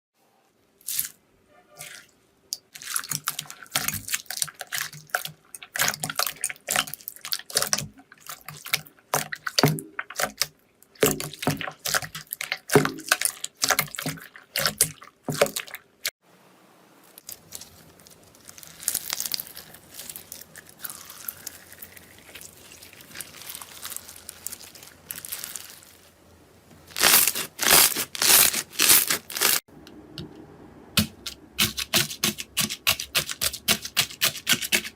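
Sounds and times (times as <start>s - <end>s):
slime squelching: 1.8s - 16.2s, 17.2s - 26.2s, 26.8s - 29.6s, 31.0s - 34.9s.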